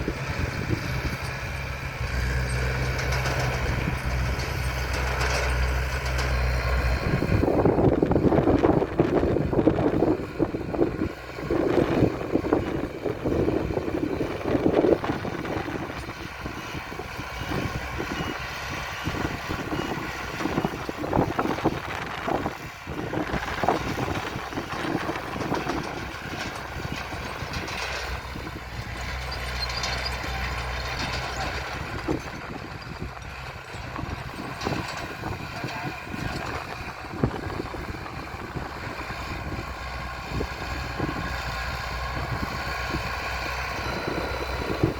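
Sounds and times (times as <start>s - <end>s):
heavy machinery diesel engines: 0.0s - 44.9s
low engine hum: 0.0s - 44.9s.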